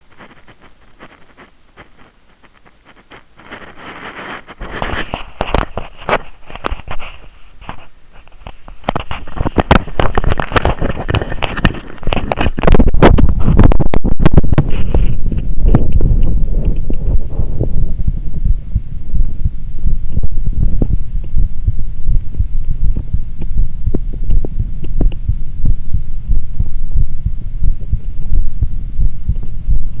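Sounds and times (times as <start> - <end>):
microphone rubbing crackle: 0.0 - 30.0
heartbeat: 5.4 - 30.0.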